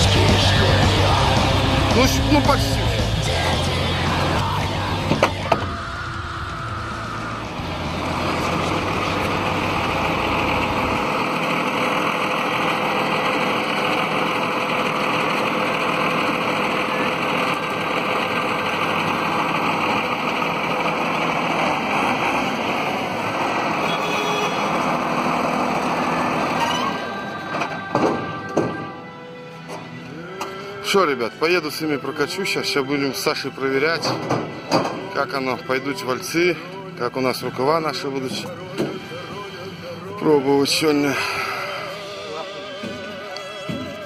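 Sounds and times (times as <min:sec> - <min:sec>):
heavy machinery engine running: 0:00.0 - 0:44.0.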